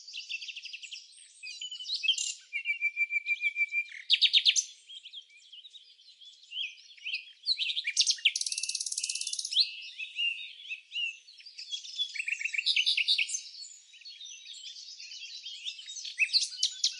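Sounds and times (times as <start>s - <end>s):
songbirds chirping and singing: 0.0s - 16.9s.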